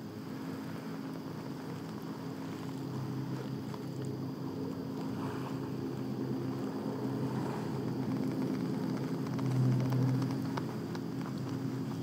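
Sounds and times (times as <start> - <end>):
boat motor running: 0.2 - 12.0.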